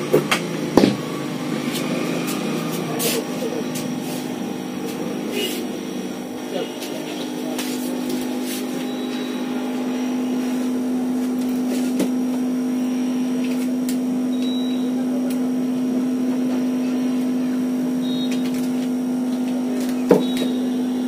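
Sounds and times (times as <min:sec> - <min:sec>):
pressure chamber humming: 0:00.0 - 0:21.0.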